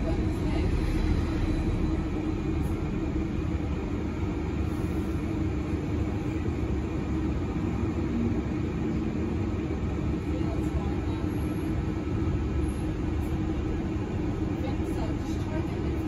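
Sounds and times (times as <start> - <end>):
bus drivetrain and road rumble: 0.0 - 16.0
constant hum: 0.0 - 16.0
lower hum: 0.0 - 16.0.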